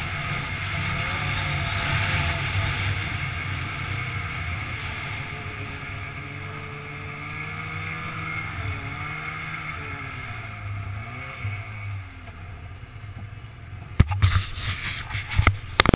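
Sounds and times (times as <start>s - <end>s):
snowmobile engine running: 0.0s - 15.9s.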